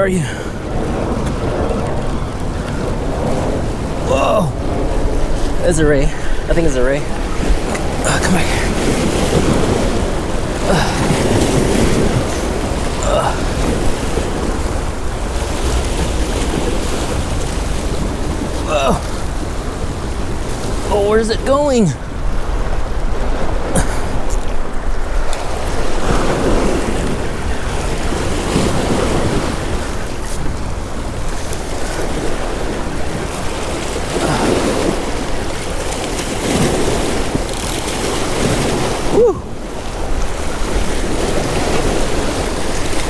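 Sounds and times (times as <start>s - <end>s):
waves washing on shore: 0.0s - 43.0s
wind on microphone: 0.0s - 43.0s.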